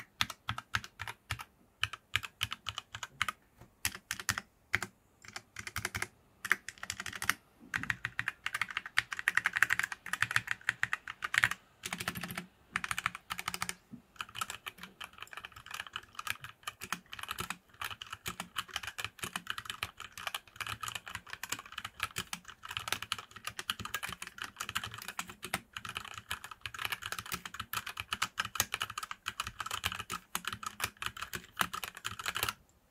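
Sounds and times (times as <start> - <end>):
typing on mechanical keyboard: 0.0 - 32.6.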